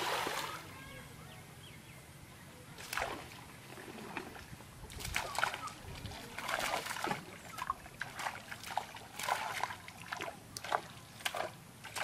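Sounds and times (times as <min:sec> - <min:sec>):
water splashing and sloshing: 0:00.0 - 0:00.7, 0:02.8 - 0:12.0.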